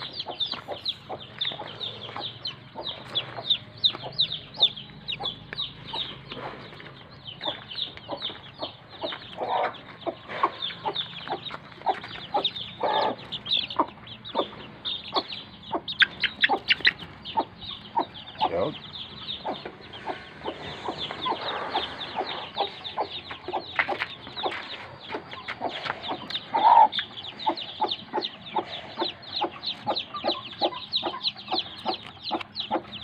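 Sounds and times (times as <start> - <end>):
chicks peeping: 0.0 - 33.0
hen clucking: 0.0 - 33.0.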